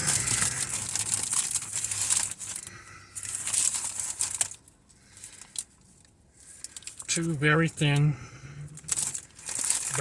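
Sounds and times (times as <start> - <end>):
paper wrapper crinkling: 0.0 - 7.4, 8.7 - 10.0.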